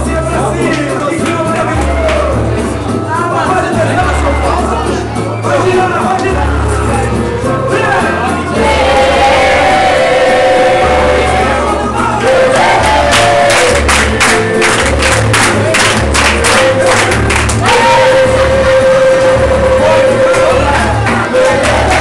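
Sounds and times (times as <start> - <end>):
pop music with singing: 0.0 - 22.0
rhythmic handclapping: 0.0 - 22.0.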